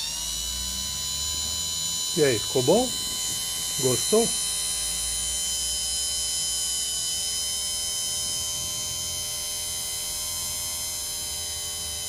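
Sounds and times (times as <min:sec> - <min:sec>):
electric motor humming with whine: 0:00.0 - 0:12.0.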